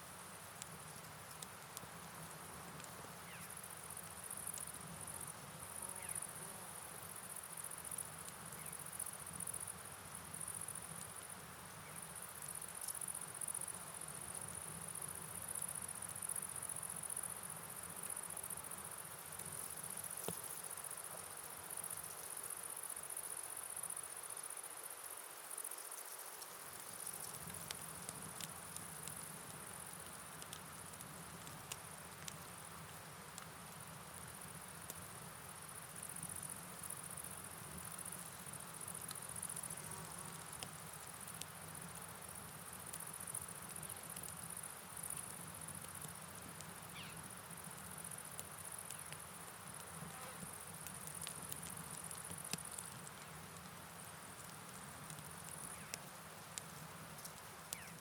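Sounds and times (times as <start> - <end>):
insect chorus: 0.0 - 58.0
rain hiss: 0.0 - 58.0
faint ticks: 0.5 - 6.7, 7.5 - 9.7, 10.3 - 24.7, 25.5 - 58.0.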